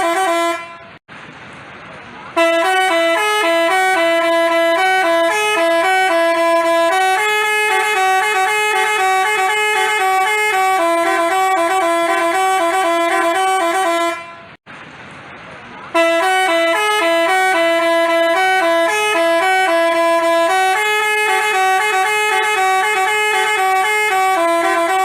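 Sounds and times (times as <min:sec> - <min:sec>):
multi-tone horn playing a tune: 0:00.0 - 0:01.0, 0:02.4 - 0:14.6, 0:15.9 - 0:25.0.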